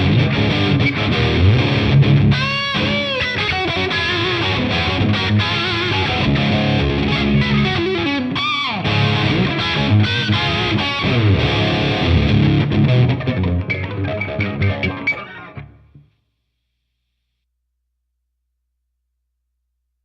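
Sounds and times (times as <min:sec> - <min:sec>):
overdriven electric guitar: 0:00.0 - 0:16.1.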